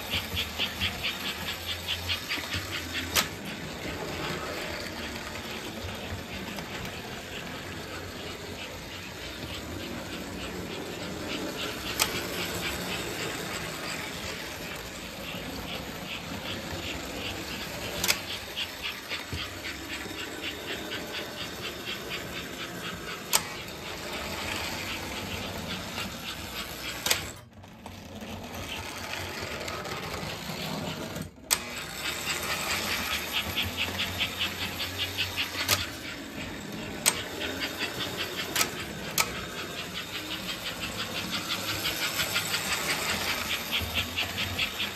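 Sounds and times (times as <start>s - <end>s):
toy train motor whir: 0.0s - 44.9s
toy train wheels clattering: 0.0s - 44.9s.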